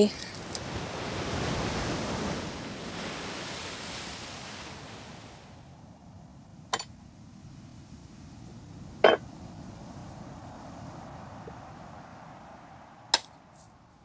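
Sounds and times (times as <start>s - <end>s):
sea surf washing: 0.0s - 5.8s, 7.2s - 14.0s.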